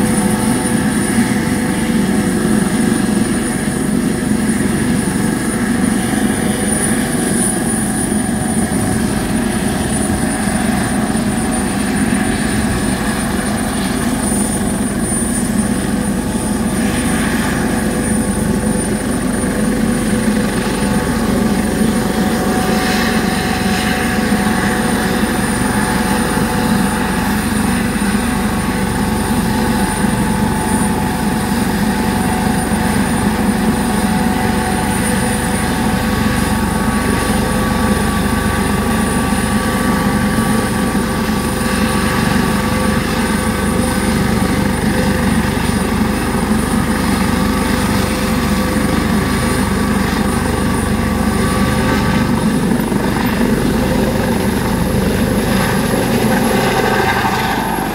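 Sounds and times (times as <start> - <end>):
helicopter turbine whine: 0.0 - 57.9.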